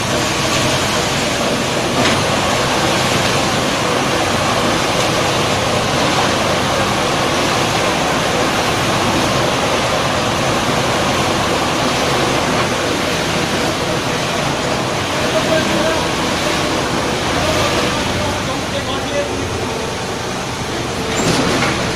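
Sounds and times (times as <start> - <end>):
concrete mixer pump running: 0.0 - 21.9.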